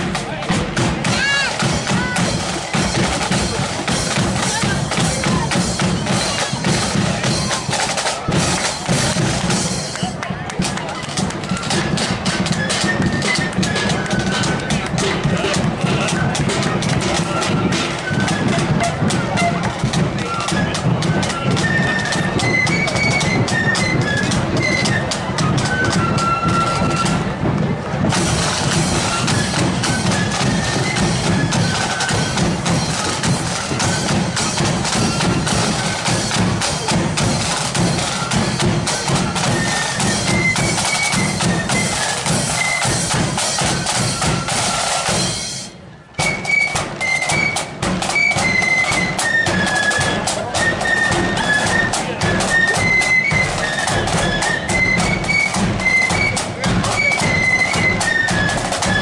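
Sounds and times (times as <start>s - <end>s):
snare drums: 0.0s - 59.0s
flutes playing high melody: 0.8s - 27.4s, 28.0s - 59.0s.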